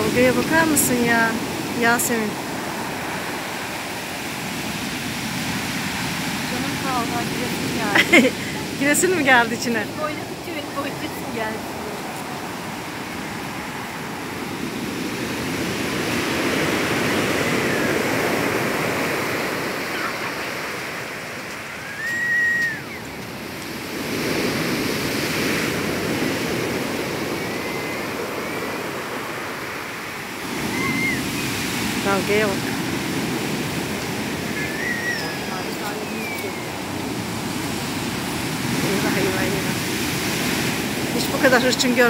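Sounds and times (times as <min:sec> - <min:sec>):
waves breaking on beach: 0:00.0 - 0:42.0.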